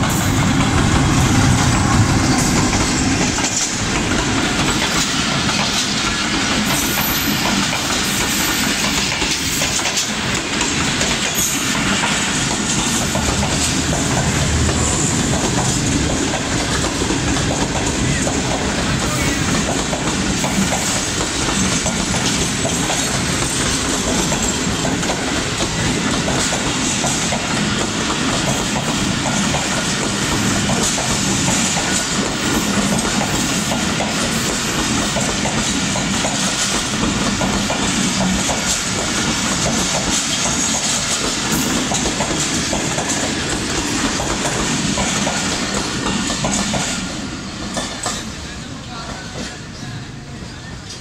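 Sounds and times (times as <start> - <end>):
train wheels clattering over rail joints: 0.0 - 48.4.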